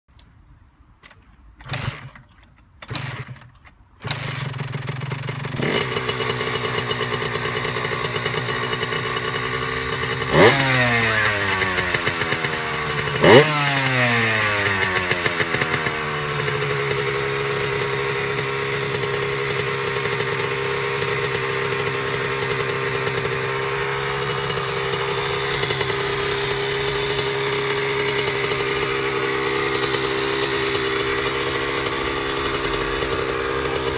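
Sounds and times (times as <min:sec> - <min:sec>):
small engine starting and revving: 0:01.6 - 0:33.9
engine idling: 0:04.2 - 0:33.9.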